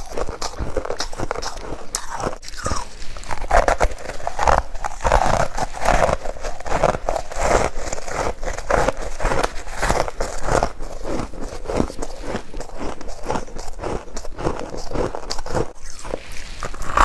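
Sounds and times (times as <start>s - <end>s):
chewing crunchy frost: 0.0s - 17.0s.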